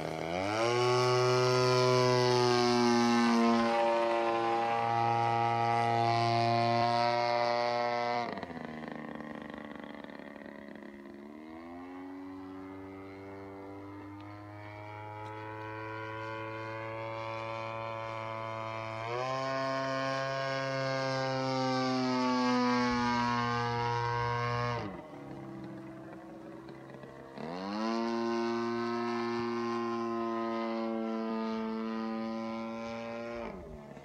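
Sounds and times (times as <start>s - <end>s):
model aircraft engine buzzing: 0.0s - 34.0s.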